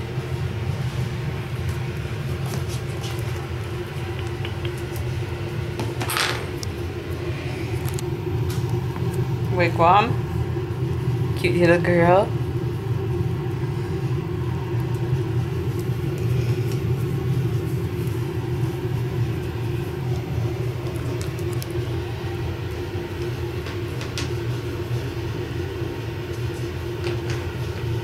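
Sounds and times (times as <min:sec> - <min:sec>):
low rumbling hum: 0:00.0 - 0:28.0.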